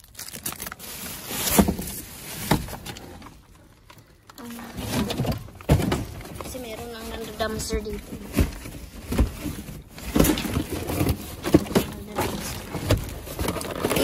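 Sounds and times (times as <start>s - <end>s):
paper and plastic rustling: 0.0s - 14.0s.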